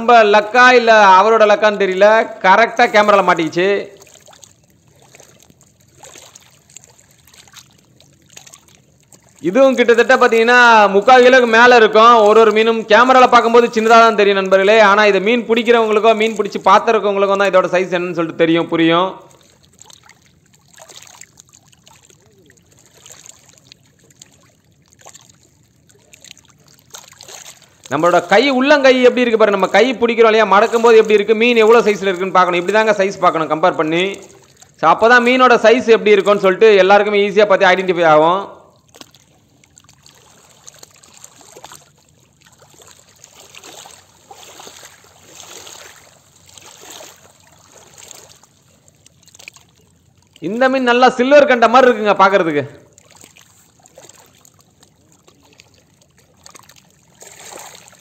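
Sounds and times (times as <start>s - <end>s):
waves lapping among rocks: 0.0s - 17.9s, 19.3s - 52.3s, 52.9s - 58.0s.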